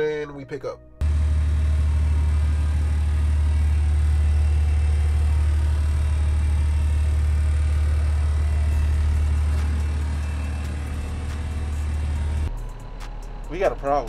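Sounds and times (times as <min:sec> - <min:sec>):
truck engine rumble: 0:01.0 - 0:14.0.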